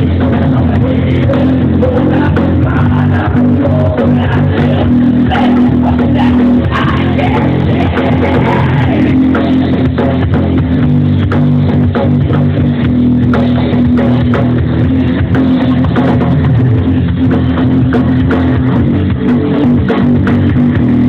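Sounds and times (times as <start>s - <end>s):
bass guitar: 0.0s - 21.0s
drum kit beat: 0.0s - 21.0s
guitar: 0.0s - 21.0s.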